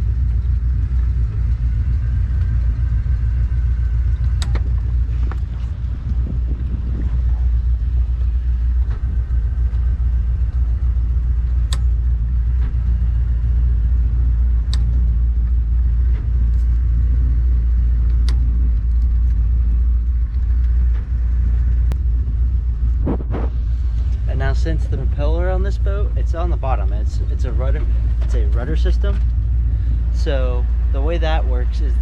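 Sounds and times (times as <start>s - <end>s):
boat engine idling: 0.0s - 32.0s.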